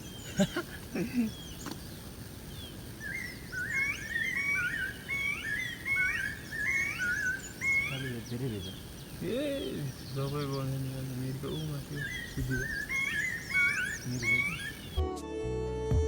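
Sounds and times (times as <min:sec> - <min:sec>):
birds calling rising notes: 0:00.0 - 0:15.0
faint high chirps: 0:00.0 - 0:15.0.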